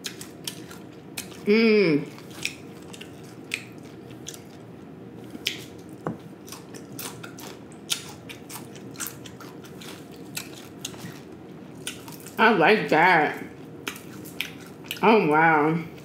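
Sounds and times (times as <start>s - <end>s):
chewing crunchy fried fish: 0.0s - 1.5s, 2.1s - 12.4s, 13.5s - 15.0s.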